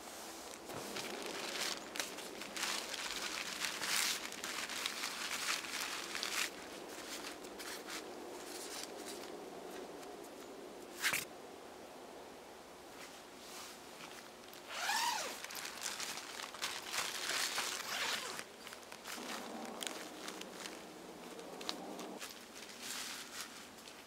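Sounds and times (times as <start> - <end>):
tent fabric rustling: 0.0 - 10.0, 13.0 - 24.0.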